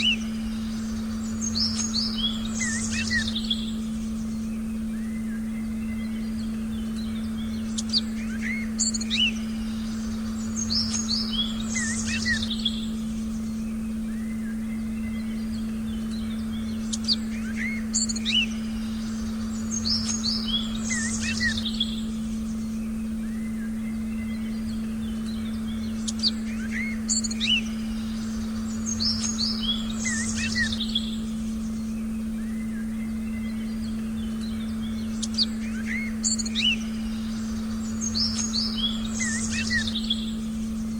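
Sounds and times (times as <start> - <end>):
small birds chirping and whistling: 0.0 - 40.9
steady low tone: 0.0 - 40.9.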